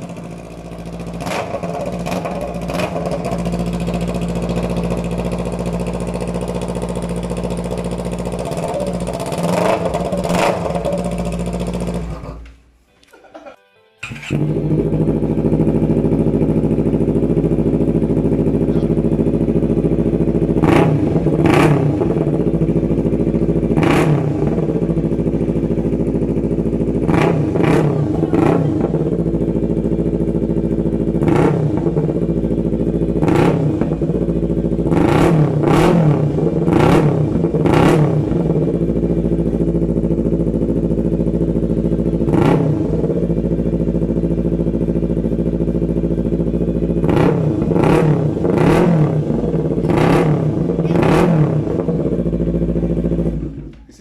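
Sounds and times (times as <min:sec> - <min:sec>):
motorcycle engine idling and revving: 0:00.0 - 0:12.6, 0:14.0 - 0:54.0.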